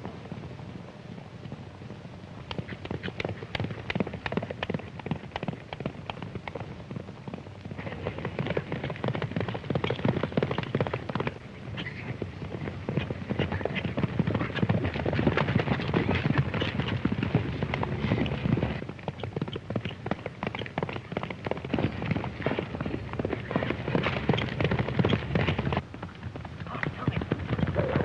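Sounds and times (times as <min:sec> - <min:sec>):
galloping horse hoofbeats: 0:00.0 - 0:28.0.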